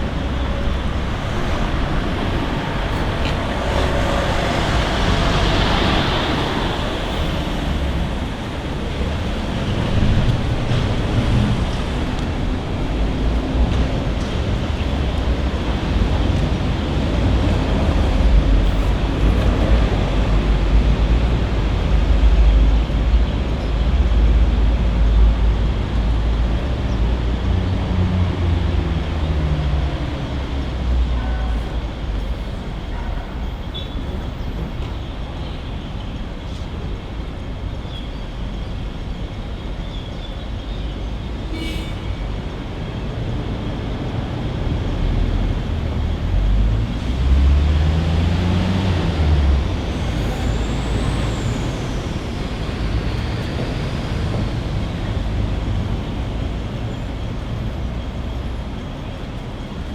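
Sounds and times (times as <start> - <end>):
heavy traffic rumble: 0.0 - 59.9.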